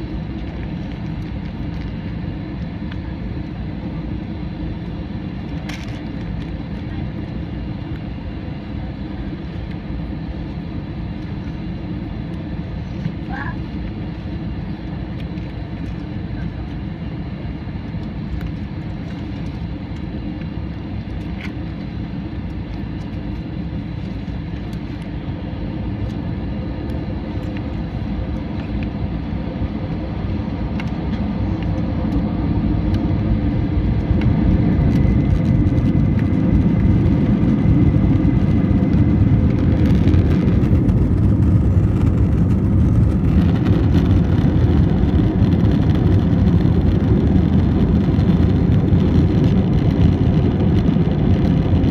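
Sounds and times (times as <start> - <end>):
jet engine and runway rumble: 0.0 - 51.9.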